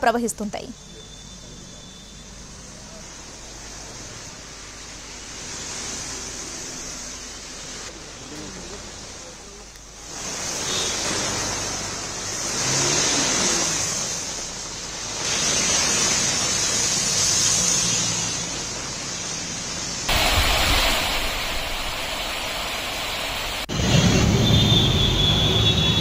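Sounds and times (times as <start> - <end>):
floodwater rushing roar: 2.9 - 26.0.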